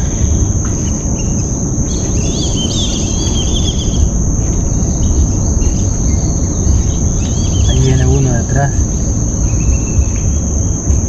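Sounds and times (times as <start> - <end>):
high-pitched insect drone: 0.0 - 11.0
loud low rumble: 0.0 - 11.0.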